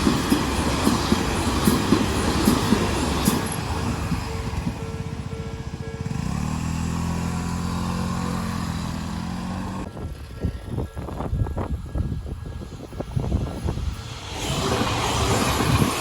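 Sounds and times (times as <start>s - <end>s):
train passing: 0.0s - 16.0s.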